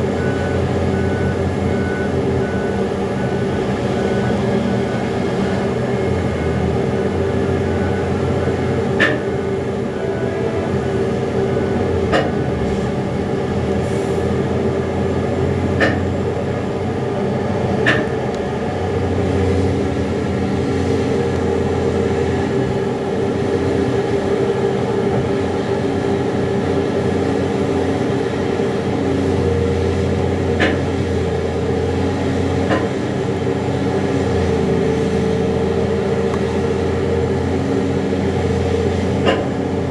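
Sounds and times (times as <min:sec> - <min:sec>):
excavator engine and hydraulics drone: 0:00.0 - 0:39.9.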